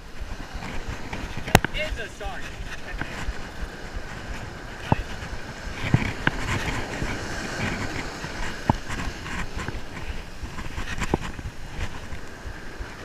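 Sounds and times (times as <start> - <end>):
waves washing up beach: 0.0 - 13.0
wind buffeting microphone: 0.0 - 13.0.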